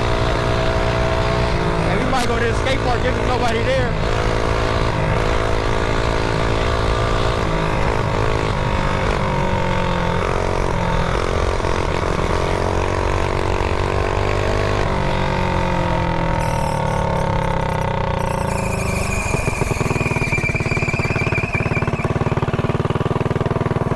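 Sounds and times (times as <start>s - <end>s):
mini bike engine running: 0.0s - 23.9s.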